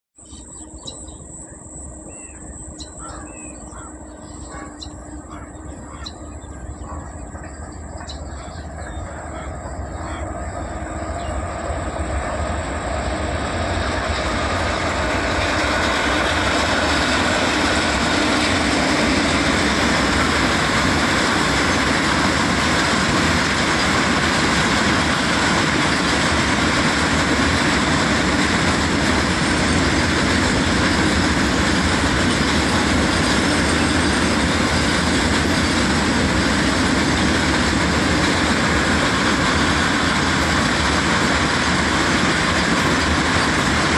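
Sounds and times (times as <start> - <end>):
freight train wheels on rails: 0.2 - 43.9.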